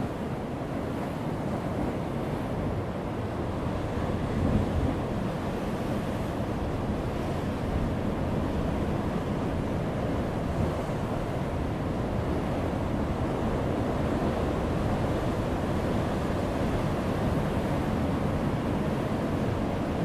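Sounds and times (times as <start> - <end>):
ocean waves breaking on rocks: 0.0 - 20.0.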